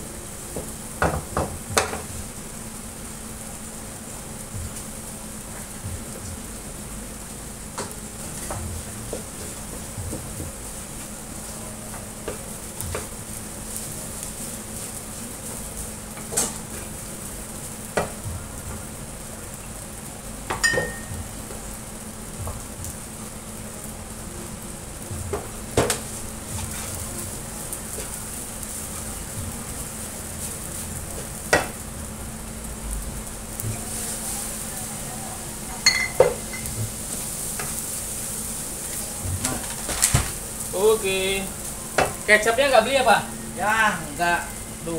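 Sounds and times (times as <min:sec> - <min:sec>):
rice sizzling in a pan: 0:00.0 - 0:44.9.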